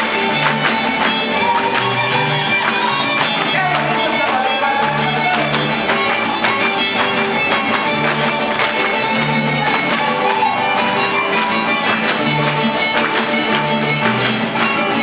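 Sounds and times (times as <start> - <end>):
strummed guitars: 0.0 - 15.0
violin melody: 0.0 - 15.0.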